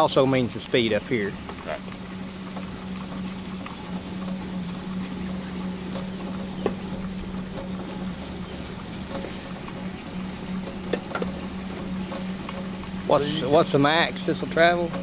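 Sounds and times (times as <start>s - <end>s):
faint high whine: 0.1s - 14.8s
cable car low hum: 0.6s - 15.0s.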